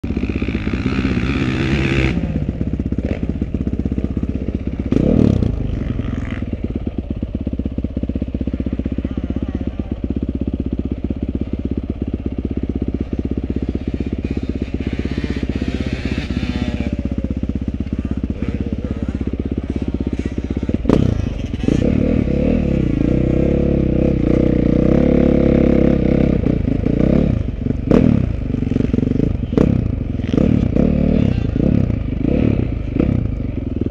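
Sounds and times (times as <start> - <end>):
dirt bike engine: 0.0 - 33.9.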